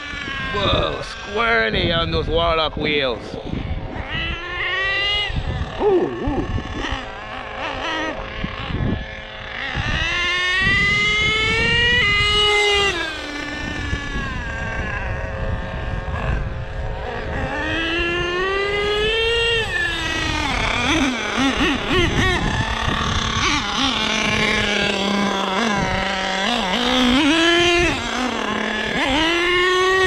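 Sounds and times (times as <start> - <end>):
small nitro engine revving: 0.0 - 30.0.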